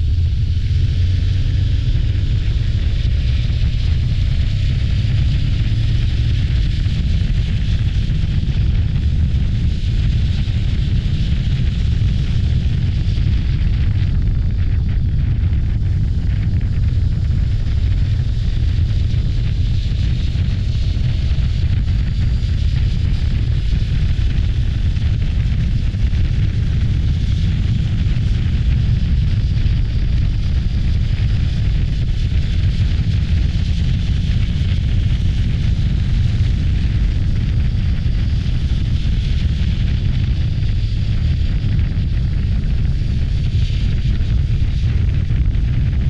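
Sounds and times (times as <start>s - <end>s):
motorcycle engine and road noise: 0.0s - 46.0s
wind buffeting microphone: 0.0s - 46.0s.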